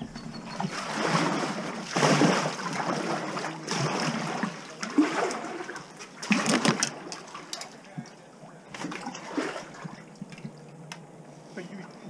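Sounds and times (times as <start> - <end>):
paddle splashing water: 0.0 - 10.5.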